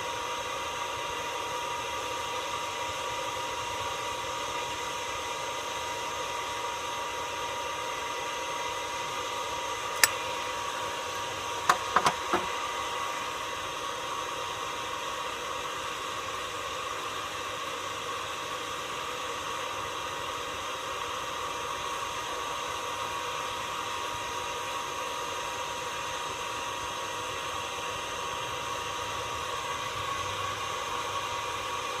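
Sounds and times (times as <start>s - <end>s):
machine hum with hiss: 0.0s - 32.0s.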